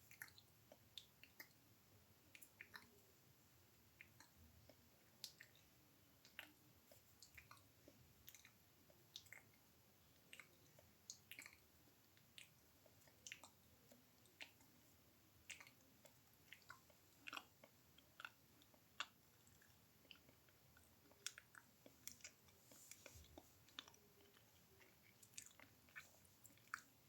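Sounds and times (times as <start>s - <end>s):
wet mouth clicks and smacks: 2.3s - 3.0s, 4.0s - 6.6s, 7.2s - 9.6s, 10.2s - 14.7s, 15.4s - 26.9s.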